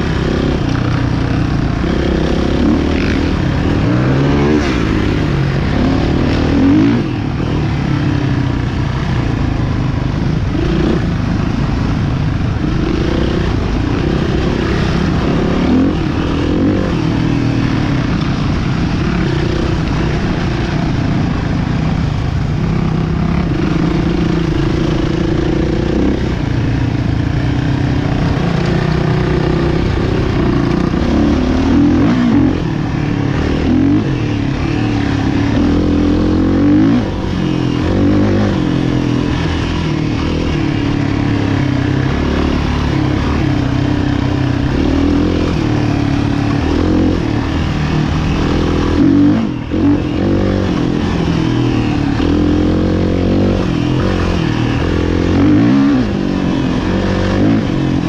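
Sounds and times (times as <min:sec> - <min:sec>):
motorcycles revving: 0:00.0 - 0:58.0.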